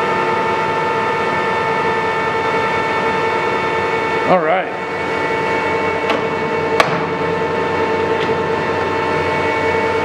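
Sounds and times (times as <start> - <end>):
lathe whining: 0.0 - 10.0.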